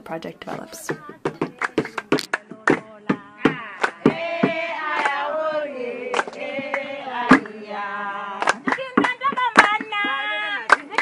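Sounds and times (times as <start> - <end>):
voices singing together: 0.5 - 11.0.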